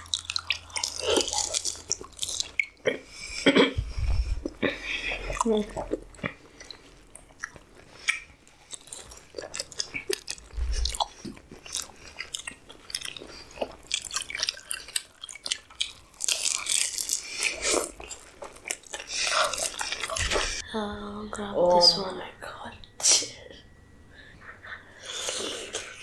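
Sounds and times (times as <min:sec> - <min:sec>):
person chewing with crunching: 0:00.0 - 0:20.6, 0:25.0 - 0:26.0.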